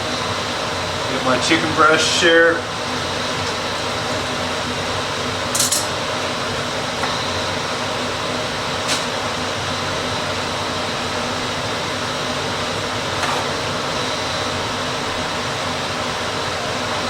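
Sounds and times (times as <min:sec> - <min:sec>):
fan rushing noise: 0:00.0 - 0:17.0.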